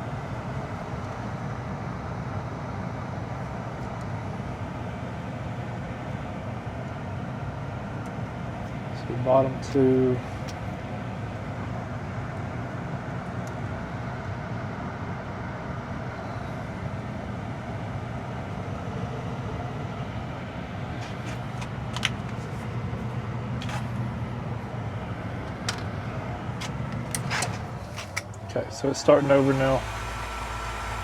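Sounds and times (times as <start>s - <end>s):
furnace motor hum: 0.0s - 31.0s.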